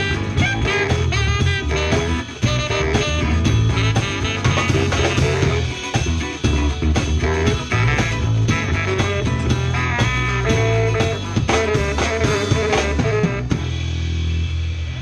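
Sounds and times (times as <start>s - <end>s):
funk jazz band playing: 0.0s - 15.0s.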